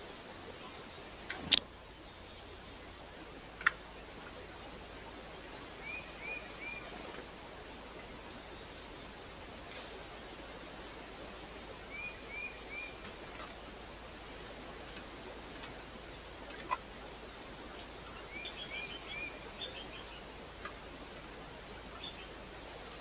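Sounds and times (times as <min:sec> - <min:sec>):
small birds chirping: 0:00.0 - 0:07.1, 0:07.8 - 0:23.0
background hiss: 0:00.0 - 0:23.0.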